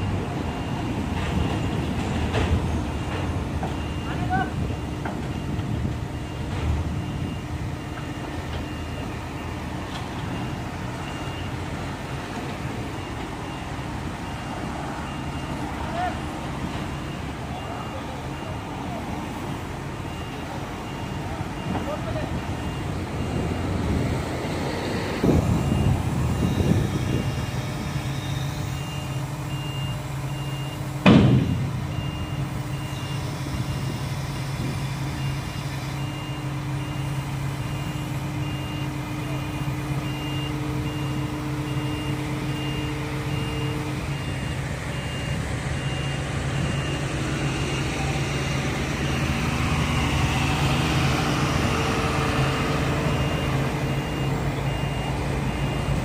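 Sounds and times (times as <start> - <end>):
travel alarm beeping: 0.0 - 16.0, 16.7 - 24.1, 25.2 - 50.8, 52.3 - 56.0
diesel engine running under load: 0.0 - 56.0.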